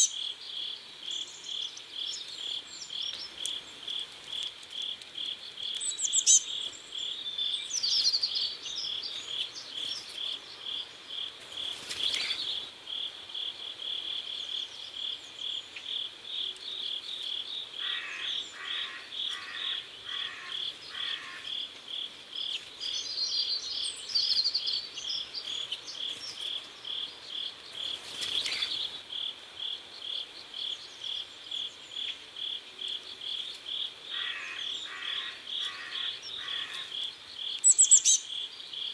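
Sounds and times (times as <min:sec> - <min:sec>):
birds twittering: 0:00.0 - 0:12.7, 0:14.3 - 0:21.7, 0:22.3 - 0:38.9
crickets chirping: 0:00.0 - 0:38.9.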